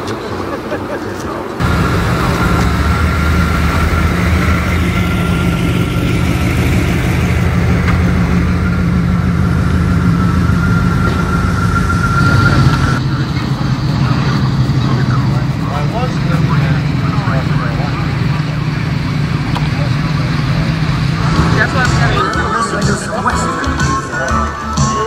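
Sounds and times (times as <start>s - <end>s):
high-pitched whine: 1.6s - 23.8s
car engine idling: 1.6s - 25.0s.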